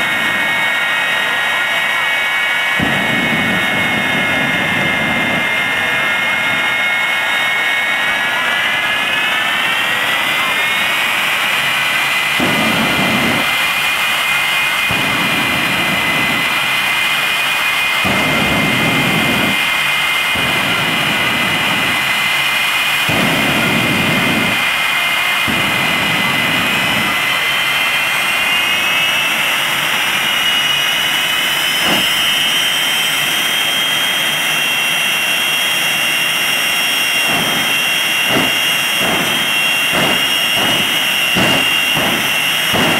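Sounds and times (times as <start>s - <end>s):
jet engines high whine: 0.0s - 42.9s
afterburner blasts: 2.6s - 42.9s.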